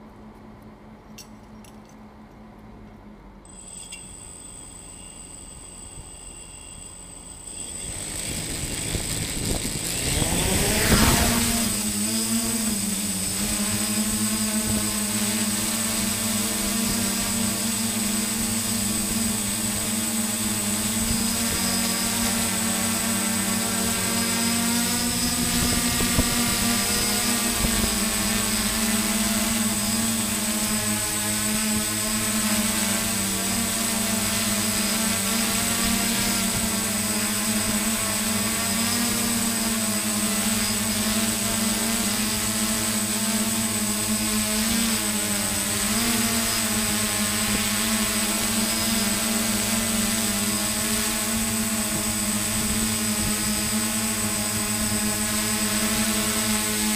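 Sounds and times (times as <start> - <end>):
drone propellers buzzing: 3.5 - 56.9.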